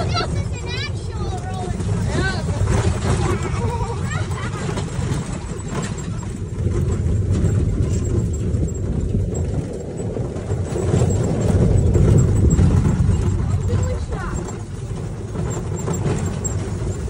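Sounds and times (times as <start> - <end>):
vehicle rumbling and rattling on dirt: 0.0 - 17.0.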